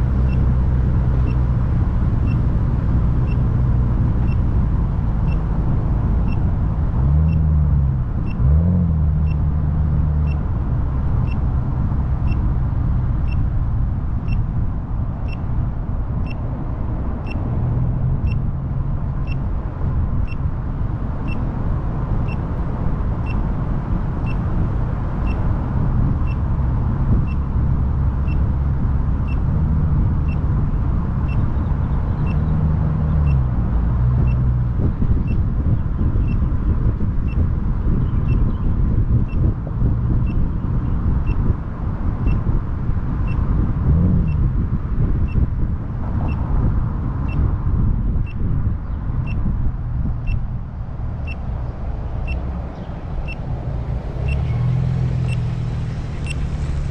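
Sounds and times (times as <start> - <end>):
car engine: 0.0 - 56.9
road noise: 0.0 - 56.9.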